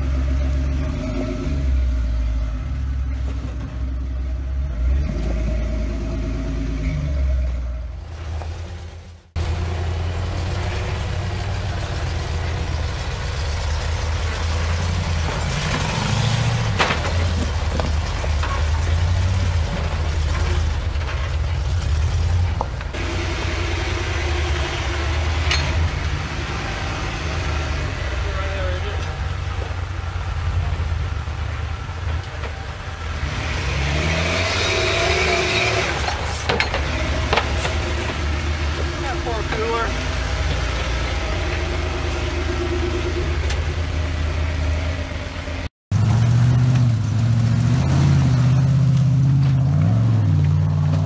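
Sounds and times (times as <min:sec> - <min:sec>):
off-road engines running slowly: 0:00.0 - 0:51.0.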